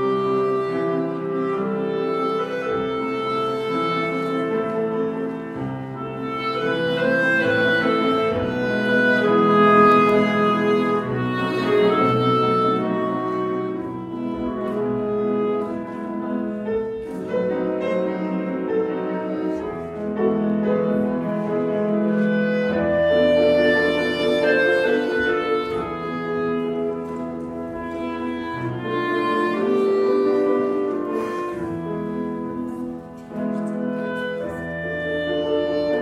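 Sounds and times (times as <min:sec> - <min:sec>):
clarinet melody: 0:00.0 - 0:36.0
piano accompaniment: 0:00.0 - 0:36.0.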